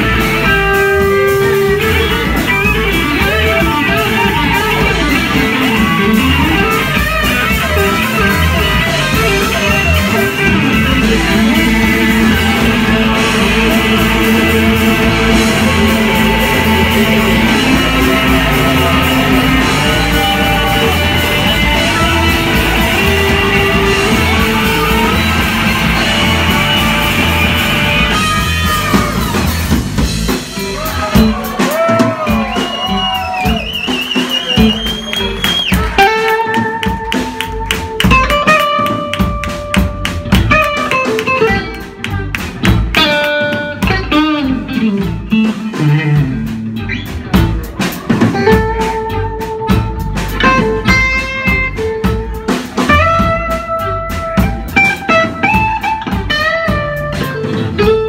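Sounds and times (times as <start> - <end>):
lead guitar with vibrato: 0.0 - 30.7, 34.6 - 58.0
blues-rock band playing: 0.0 - 58.0.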